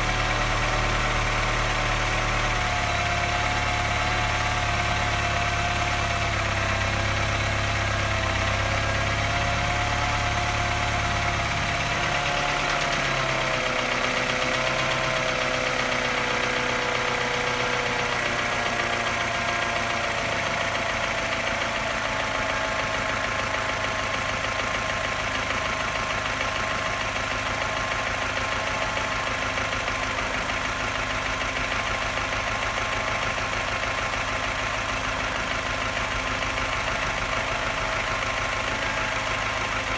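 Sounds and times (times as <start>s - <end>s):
engine idling: 0.0s - 39.9s
engine tapping and misfiring: 0.0s - 39.9s.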